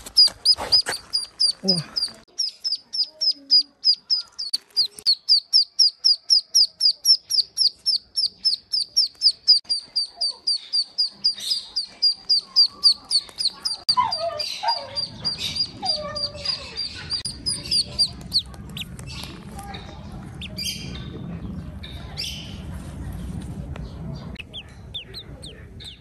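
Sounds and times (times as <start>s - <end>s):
duckling peeping: 0.0s - 21.0s, 24.3s - 26.0s.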